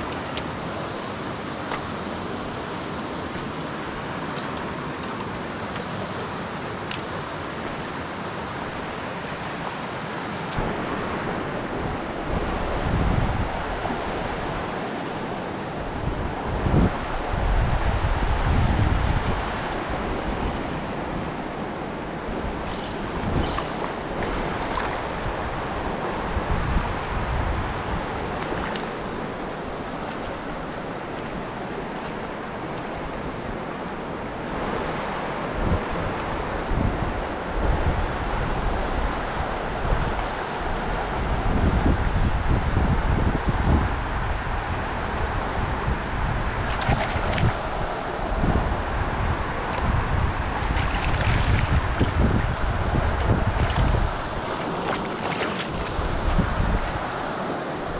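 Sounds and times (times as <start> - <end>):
stream rushing over rocks: 0.0 - 57.9
wind rumble on microphone: 0.0 - 57.9.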